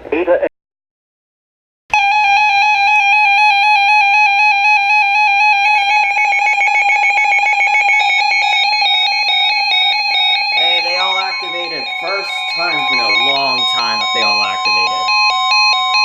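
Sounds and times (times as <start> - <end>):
rapid pulsing alarm beep: 1.9 - 16.0
steady alarm tone: 1.9 - 16.0.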